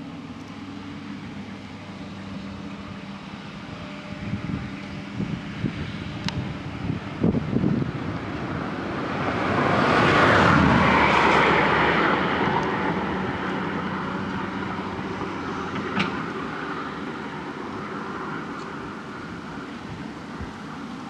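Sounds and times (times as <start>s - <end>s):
excavator diesel engine humming: 0.0s - 21.0s
rushing noise: 0.9s - 21.0s.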